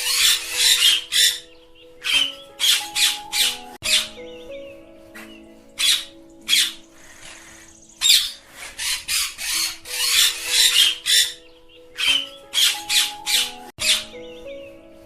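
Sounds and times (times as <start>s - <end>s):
parakeets screeching: 0.0s - 4.5s, 5.2s - 14.4s.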